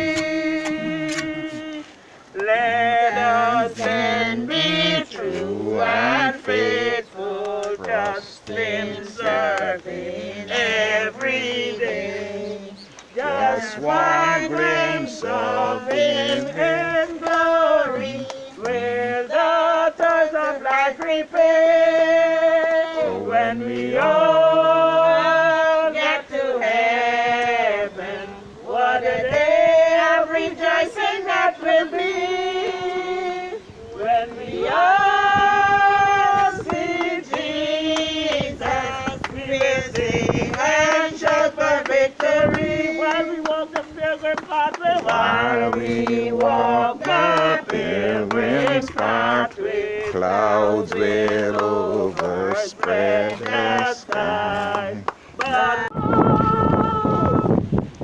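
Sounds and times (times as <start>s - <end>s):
group singing a hymn: 0.0s - 57.8s.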